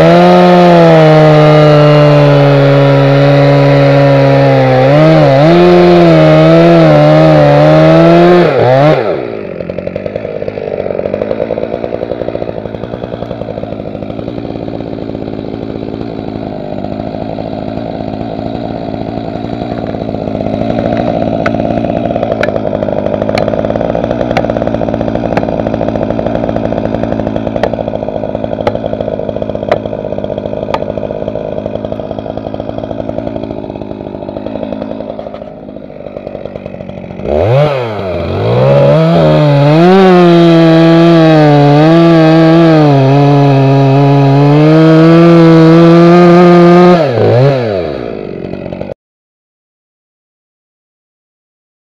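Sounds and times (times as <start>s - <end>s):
chainsaw idling: 0.0s - 49.0s.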